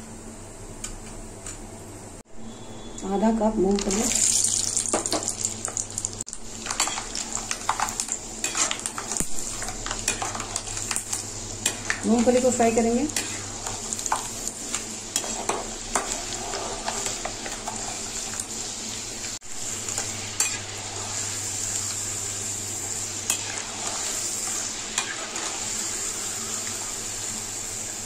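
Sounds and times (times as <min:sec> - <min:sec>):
peanuts sizzling in hot oil: 0:03.5 - 0:28.0.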